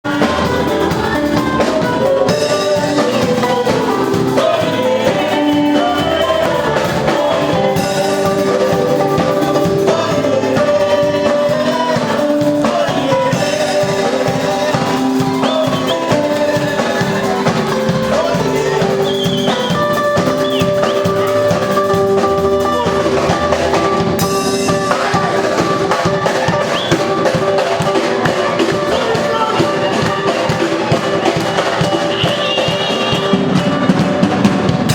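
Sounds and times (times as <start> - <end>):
drum kit beat: 0.0 - 34.9
live band playing: 0.0 - 34.9.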